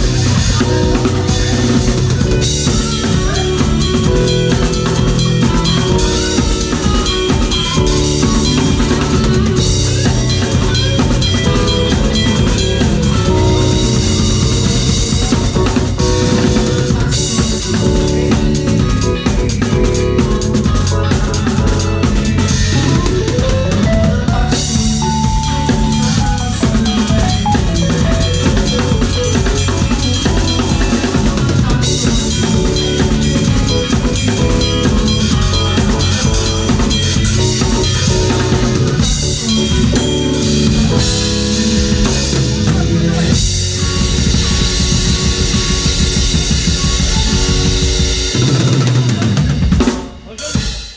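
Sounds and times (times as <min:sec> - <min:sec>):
electric guitar: 0:00.0 - 0:50.0
drum kit beat: 0:00.0 - 0:50.9
keyboard: 0:00.0 - 0:50.9
live band playing: 0:00.0 - 0:50.9.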